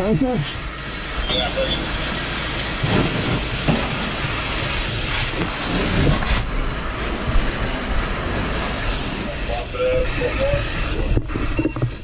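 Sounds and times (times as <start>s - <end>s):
fire hose water rushing: 0.0s - 12.0s.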